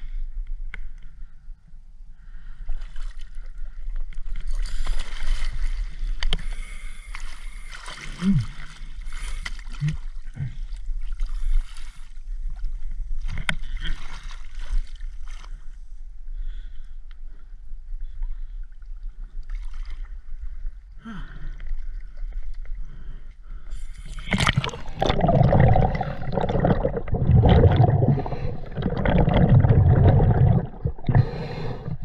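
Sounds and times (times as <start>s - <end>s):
water splashing and sloshing: 2.7s - 15.8s, 18.2s - 20.6s, 21.5s - 32.0s.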